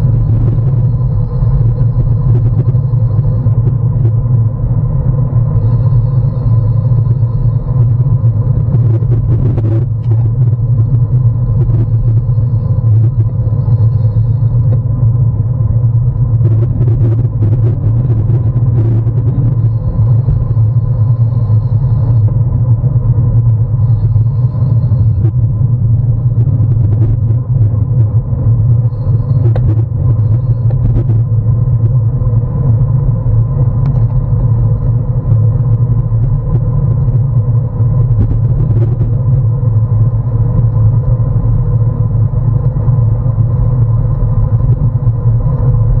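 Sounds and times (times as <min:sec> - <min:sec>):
faint steady tone: 0:00.0 - 0:46.0.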